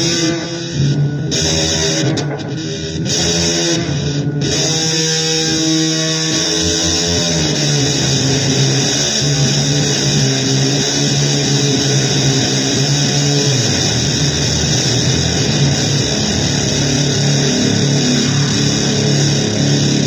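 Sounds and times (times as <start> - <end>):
electric guitar playing blues: 0.0 - 20.0.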